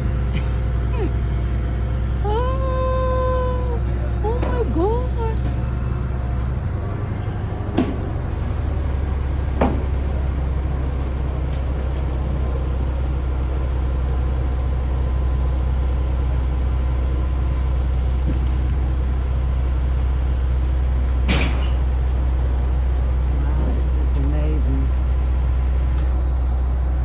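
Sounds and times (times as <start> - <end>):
large engine idling: 0.0 - 27.0.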